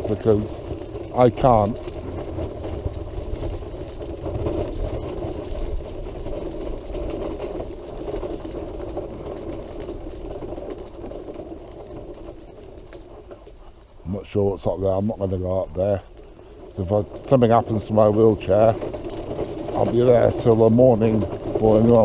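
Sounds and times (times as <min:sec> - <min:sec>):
wheelchair wheels rumbling: 0:00.0 - 0:22.0.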